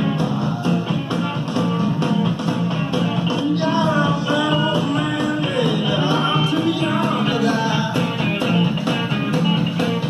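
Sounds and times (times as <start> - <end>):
rock song from speakers: 0.0 - 10.0.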